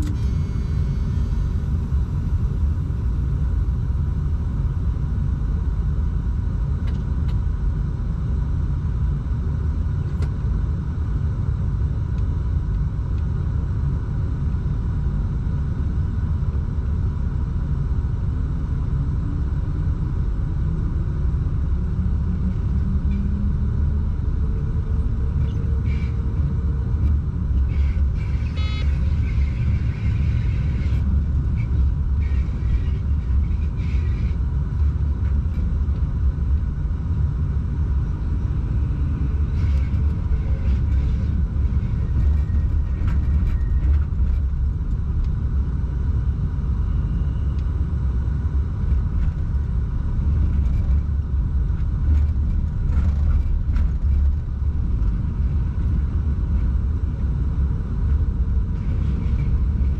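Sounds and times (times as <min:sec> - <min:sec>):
train rumbling from inside cab: 0:00.0 - 0:59.9.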